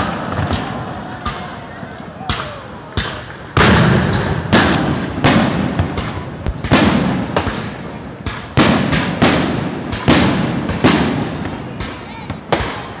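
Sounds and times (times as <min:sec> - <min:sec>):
firework shells bursting: 0:00.0 - 0:13.0
rumble after firework bangs: 0:00.0 - 0:13.0.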